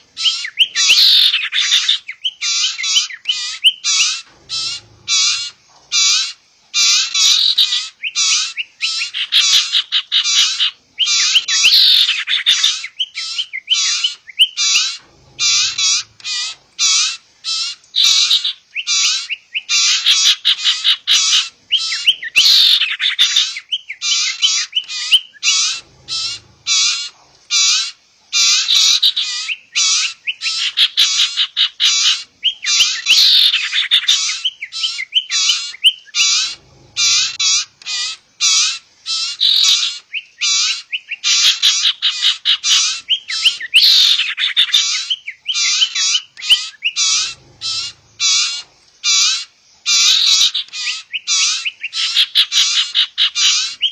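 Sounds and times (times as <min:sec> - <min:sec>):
birds chirping high-pitched: 0:00.0 - 0:53.9.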